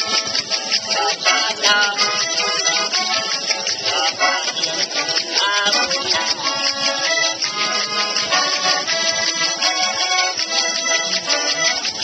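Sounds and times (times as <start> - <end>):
button accordion melody: 0.0 - 12.0.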